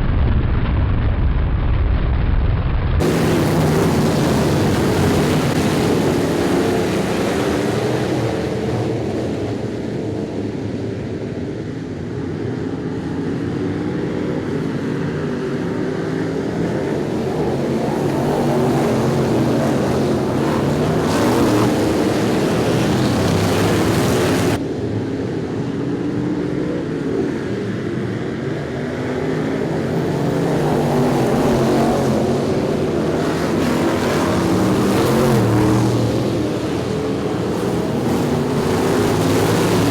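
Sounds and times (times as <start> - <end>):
race car engines accelerating: 3.0 - 39.9.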